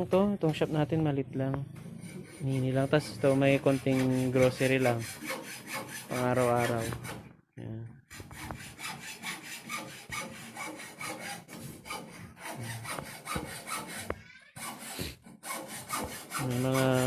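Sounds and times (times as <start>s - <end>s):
rapid rhythmic rasping scrape: 1.8s - 7.2s, 8.1s - 17.0s.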